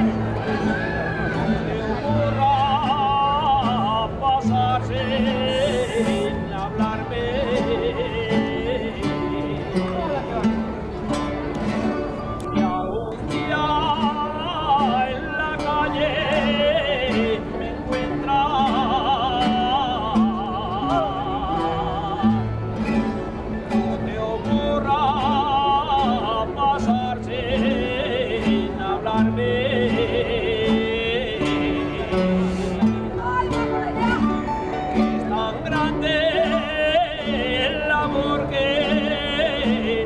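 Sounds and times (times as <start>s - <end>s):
guitars and plucked strings: 0.0s - 40.0s
person singing with vibrato: 0.9s - 10.1s, 12.6s - 22.8s, 24.0s - 40.0s.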